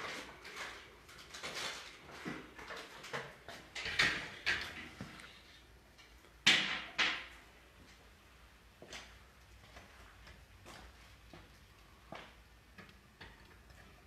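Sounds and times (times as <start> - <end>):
objects knocking and rustling: 0.0 - 8.0, 8.8 - 14.0.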